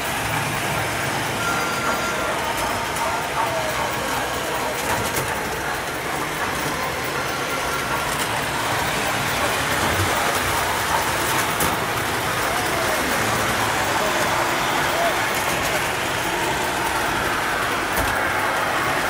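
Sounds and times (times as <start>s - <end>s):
model trains rolling whir: 0.0s - 19.0s.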